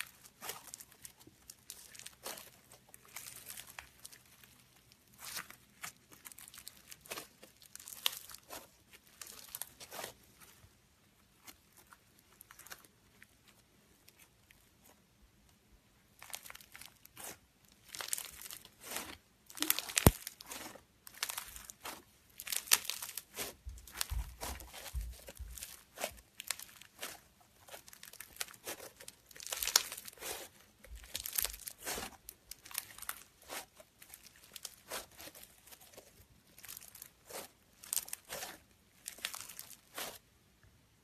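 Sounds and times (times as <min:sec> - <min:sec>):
foam slime beads crackling: 0:00.0 - 0:10.6, 0:16.1 - 0:40.2.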